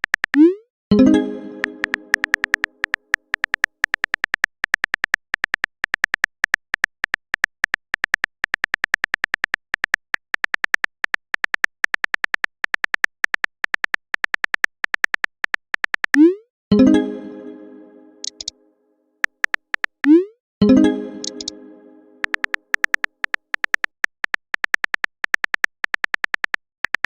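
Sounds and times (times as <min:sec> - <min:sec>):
typing clicks: 0:00.0 - 0:00.6, 0:01.5 - 0:16.3, 0:18.2 - 0:18.5, 0:19.2 - 0:20.3, 0:21.1 - 0:21.6, 0:22.2 - 0:27.0.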